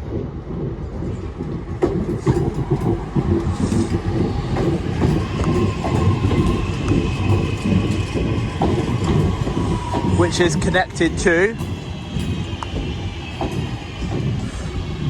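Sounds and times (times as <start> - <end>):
high whine: 0.0 - 15.0
train wheels clattering: 0.0 - 15.0.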